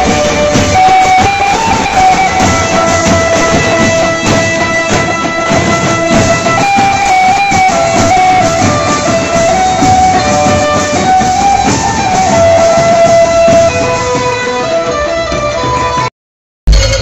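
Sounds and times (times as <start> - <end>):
steady drum beat: 0.0 - 15.7.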